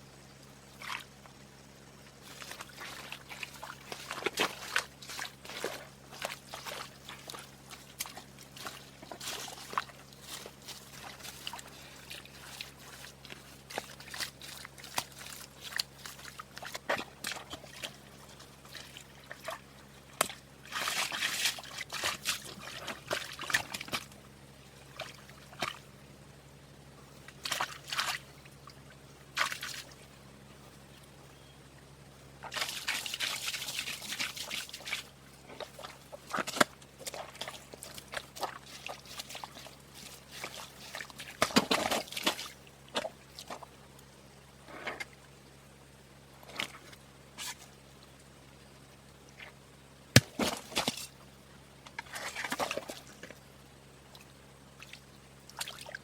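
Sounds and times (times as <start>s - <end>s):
water sloshing and dripping: 0.6s - 1.4s, 2.1s - 26.0s, 27.0s - 31.2s, 32.2s - 44.1s, 46.4s - 48.3s, 49.0s - 56.0s.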